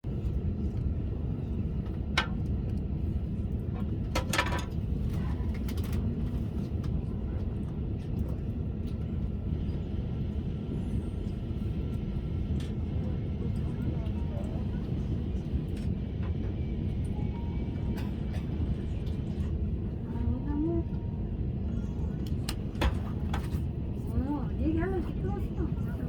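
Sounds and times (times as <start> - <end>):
train rumbling from inside carriage: 0.0 - 26.0.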